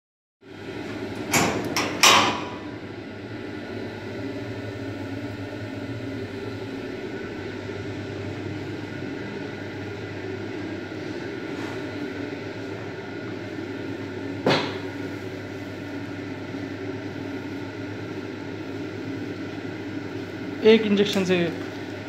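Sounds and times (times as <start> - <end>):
steady low hum: 0.5 - 22.0.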